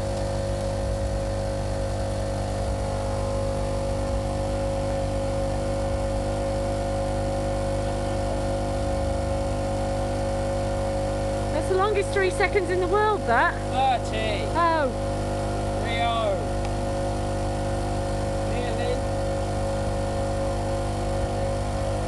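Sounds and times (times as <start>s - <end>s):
low generator engine drone: 0.0s - 22.0s
microwave oven humming: 0.0s - 22.0s.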